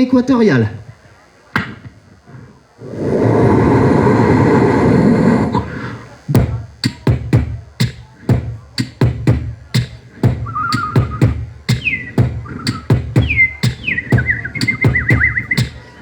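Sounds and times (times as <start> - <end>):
beatboxed drum-like beat: 0.8 - 2.8, 3.5 - 16.0
beatboxed rushing whoosh: 2.8 - 16.0.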